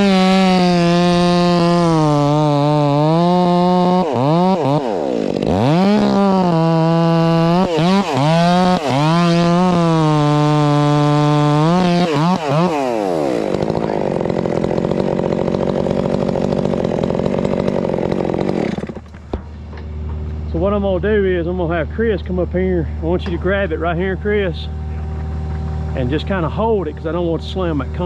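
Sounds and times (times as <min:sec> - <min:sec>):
chainsaw running at full throttle: 0:00.0 - 0:19.1, 0:23.9 - 0:28.0.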